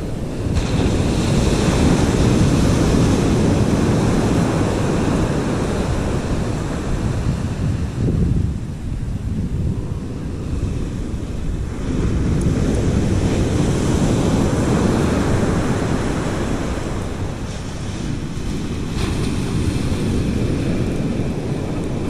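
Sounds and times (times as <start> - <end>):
ocean surf breaking: 0.0 - 22.0
wind rumbling on microphone: 0.0 - 22.0.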